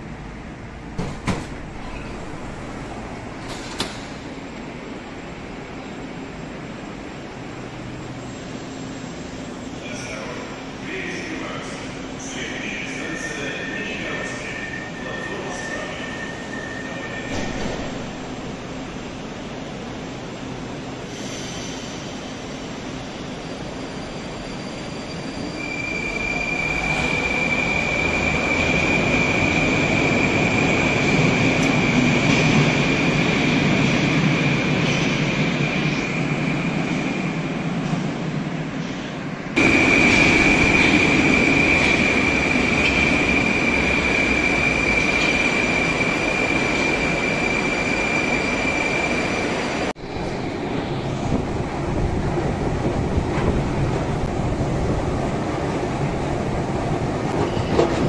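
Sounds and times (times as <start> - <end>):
metro train running in tunnel: 0.0 - 58.0.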